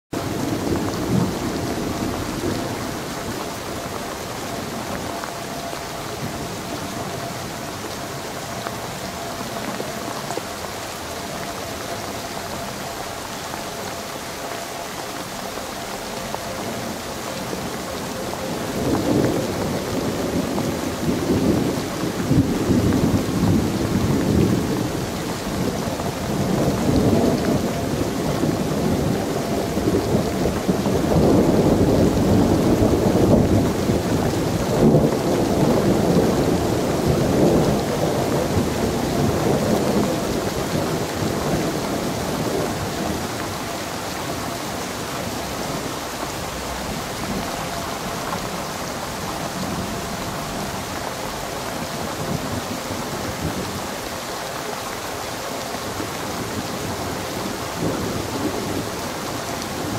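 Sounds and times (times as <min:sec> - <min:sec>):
heavy rain and wind rushing: 0:00.1 - 0:59.9.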